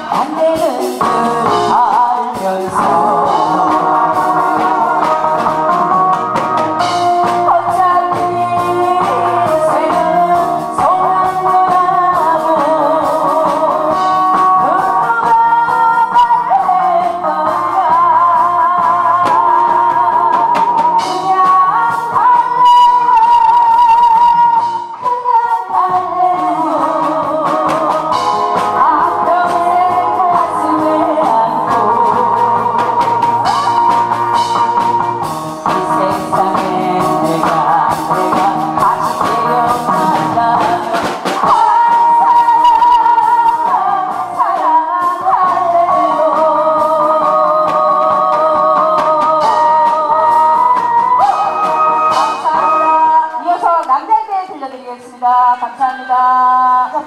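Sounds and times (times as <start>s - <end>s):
instrumental accompaniment: 0.0s - 54.8s
woman singing with vibrato: 0.0s - 57.0s.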